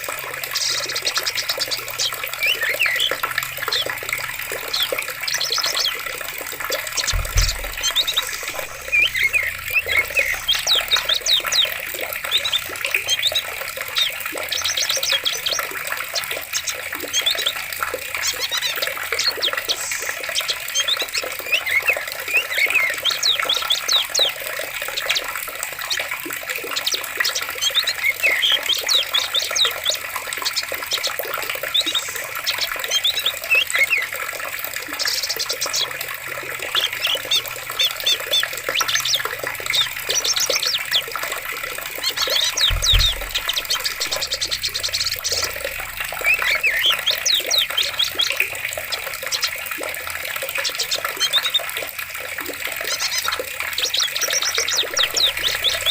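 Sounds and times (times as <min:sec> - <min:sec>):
birds chirping and trilling: 0:00.0 - 0:51.9, 0:52.7 - 0:55.9
running water: 0:00.0 - 0:55.9.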